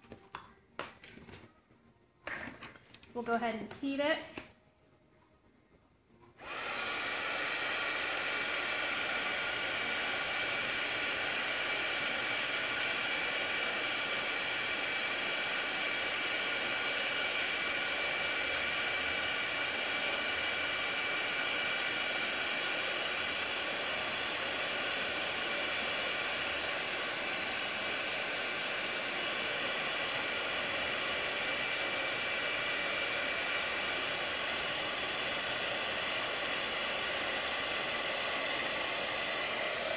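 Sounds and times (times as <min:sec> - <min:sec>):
heat gun blowing with whine: 0:06.4 - 0:39.9.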